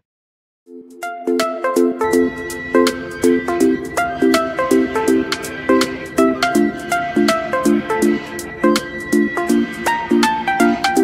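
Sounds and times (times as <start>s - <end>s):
bright music over steady beat: 0.7s - 11.0s.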